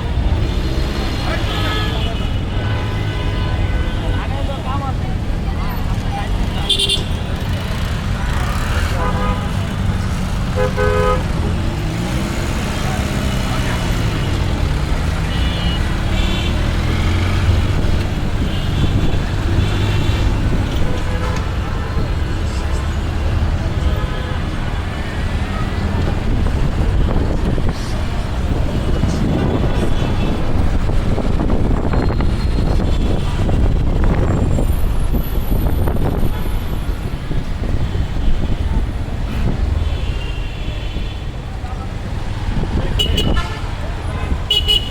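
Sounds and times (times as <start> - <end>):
road traffic: 0.0 - 44.9.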